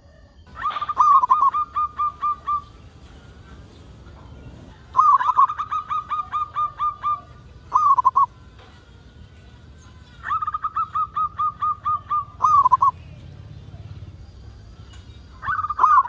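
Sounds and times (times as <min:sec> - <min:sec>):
dove cooing with rolling trill: 0:00.0 - 0:16.0.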